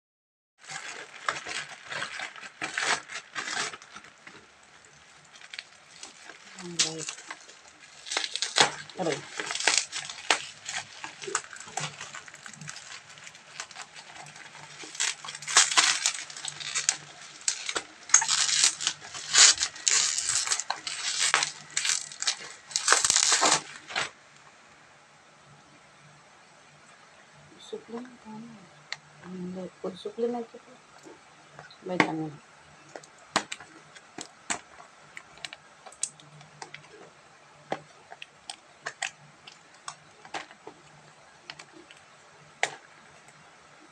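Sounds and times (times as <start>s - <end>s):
bubble wrap crinkling: 0.6s - 24.3s, 27.6s - 43.9s
faint low hum: 0.6s - 43.9s.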